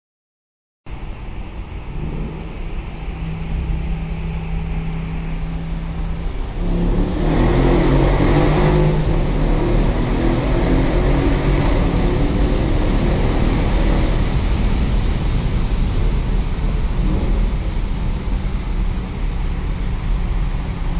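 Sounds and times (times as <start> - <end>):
car exhaust in a tunnel: 0.9 - 20.9
car accelerating: 1.0 - 20.9.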